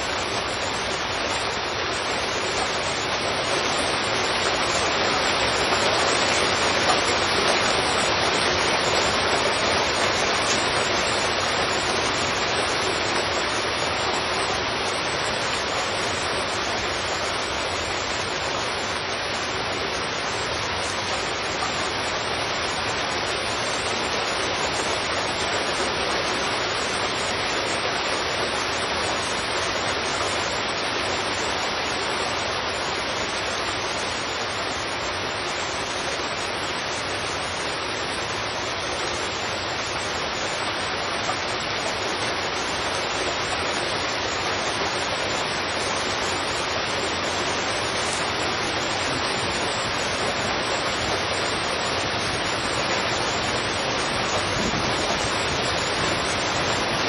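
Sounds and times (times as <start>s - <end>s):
heavy rain on a street: 0.0s - 57.0s.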